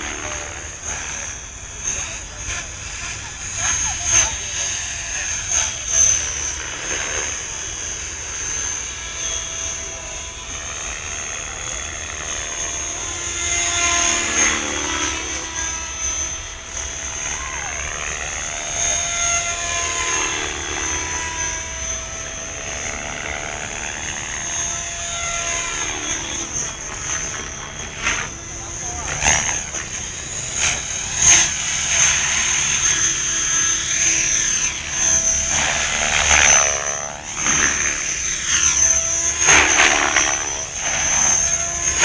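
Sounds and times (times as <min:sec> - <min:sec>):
rc helicopter rotor whine: 0:00.0 - 0:42.0.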